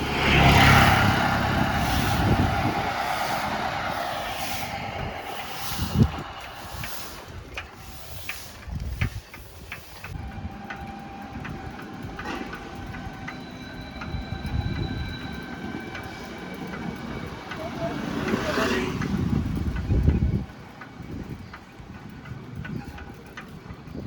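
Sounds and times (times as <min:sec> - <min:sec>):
road traffic rumbling: 0:00.0 - 0:24.0
bicycle clicks and rattles: 0:04.7 - 0:24.0.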